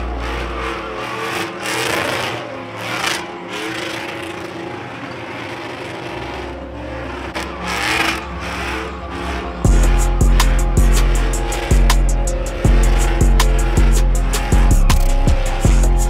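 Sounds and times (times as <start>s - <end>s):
truck engine revving hard: 0.0s - 16.0s
tyres spinning on asphalt: 0.0s - 16.0s.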